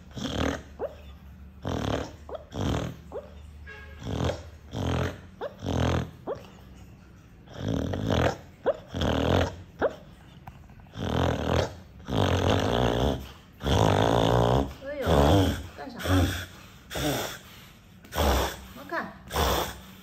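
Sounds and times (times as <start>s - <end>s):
dog snoring: 0.0s - 3.4s, 4.0s - 6.6s, 7.4s - 10.1s, 10.8s - 20.0s.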